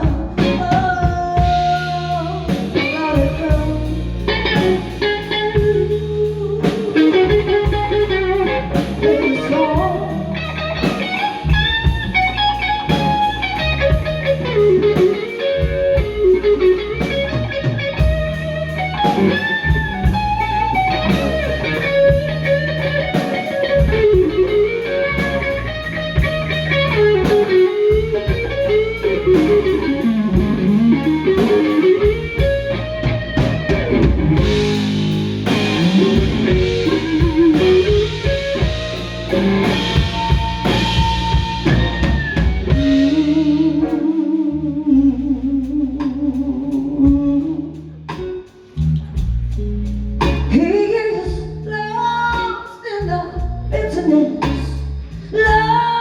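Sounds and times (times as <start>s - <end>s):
drums and cymbals: 0.0s - 44.0s, 46.0s - 50.7s, 51.3s - 56.0s
electric guitar solo: 0.0s - 48.5s
bass guitar: 0.0s - 56.0s.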